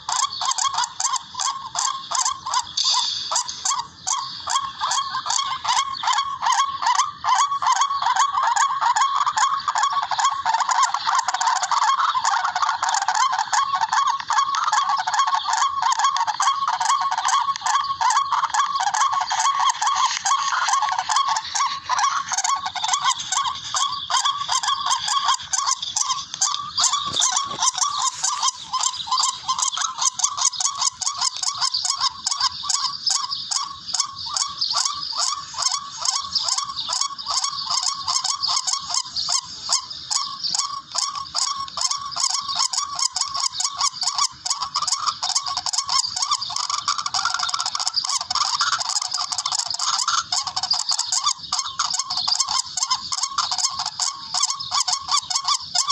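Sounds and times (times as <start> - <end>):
rail bird harsh rapid calls: 0.0 - 55.9.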